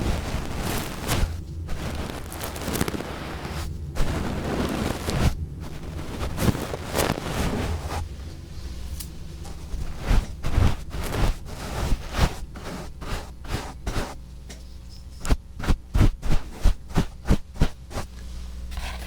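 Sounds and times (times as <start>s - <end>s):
short scratching strokes: 0.0s - 8.0s, 9.8s - 14.2s, 15.2s - 18.1s
steady low hum: 0.0s - 19.0s.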